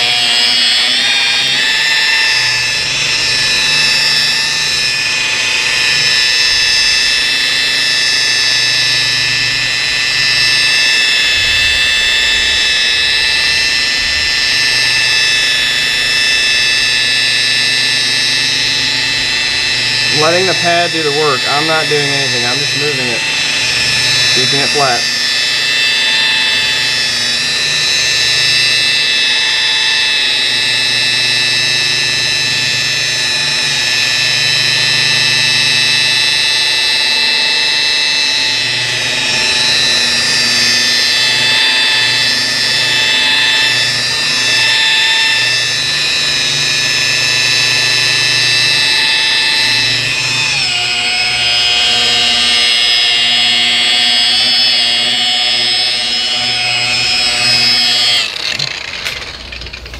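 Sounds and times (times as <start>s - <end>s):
polisher motor whine: 0.0s - 59.9s.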